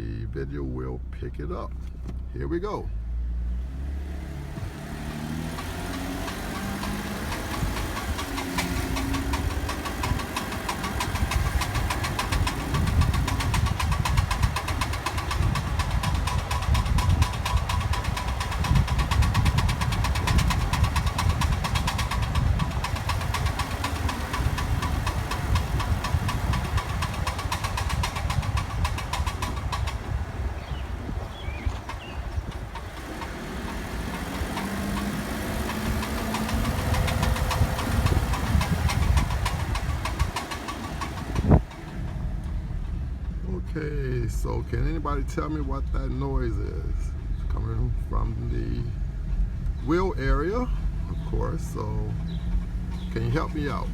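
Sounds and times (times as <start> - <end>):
car road and engine rumble: 0.0 - 53.9
rapid clicking from front wheel: 3.7 - 53.9.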